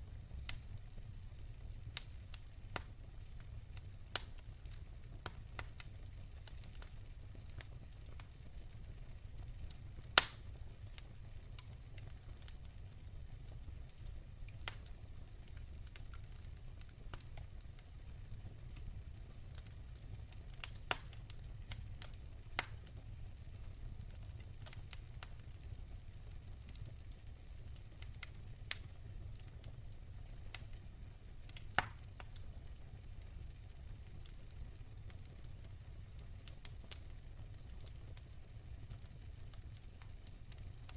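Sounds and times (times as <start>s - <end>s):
campfire crackling and popping: 0.1s - 40.9s.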